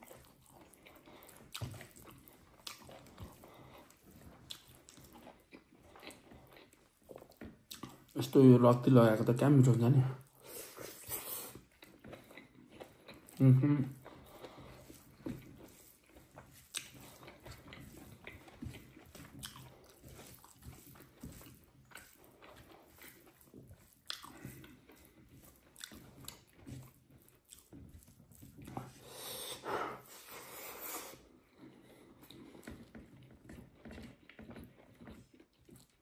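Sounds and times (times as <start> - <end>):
person biting and chewing: 0.0 - 8.2, 10.2 - 36.0.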